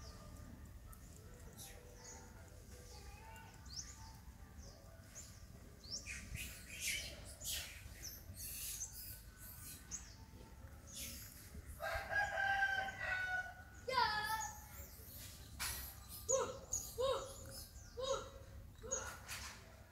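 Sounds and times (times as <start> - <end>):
birds chirping: 0.0 - 19.5.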